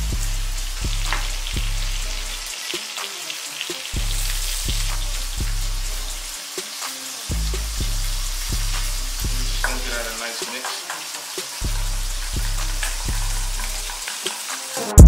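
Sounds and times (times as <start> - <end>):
music with deep bass beat: 0.0 - 3.1, 3.7 - 10.2, 10.9 - 15.0
oil sizzling in a pan: 0.0 - 15.0.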